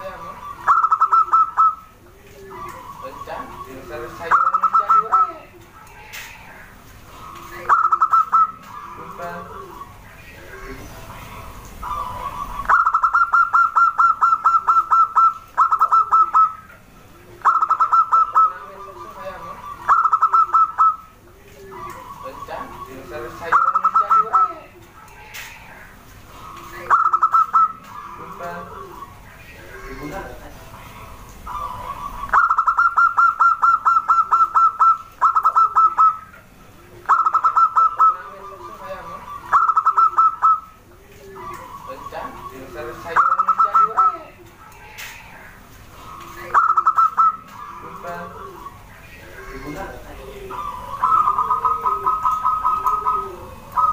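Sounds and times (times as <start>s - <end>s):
dove calling in clipped notes: 0.0s - 53.9s.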